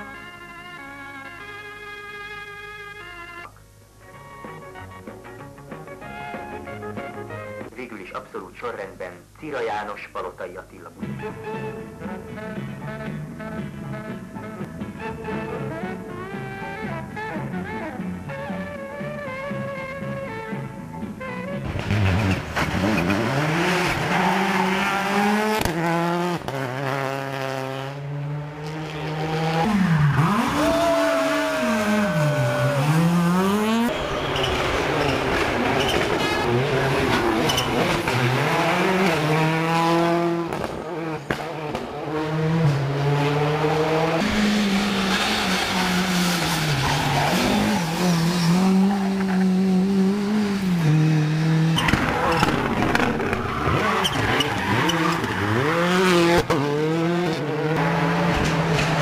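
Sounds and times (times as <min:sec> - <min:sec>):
rally car engines revving: 0:11.0 - 0:59.0.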